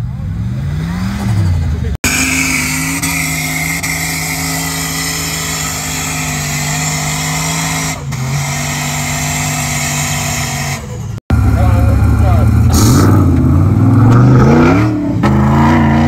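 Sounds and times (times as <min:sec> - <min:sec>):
off-road vehicle engine drone: 0:00.0 - 0:16.0.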